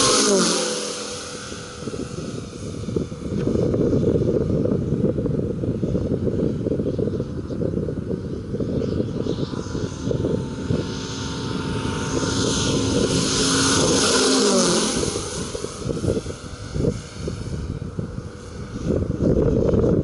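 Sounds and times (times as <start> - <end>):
model airplane engine passing: 0.0 - 20.0
wind buffeting microphone: 0.0 - 20.0.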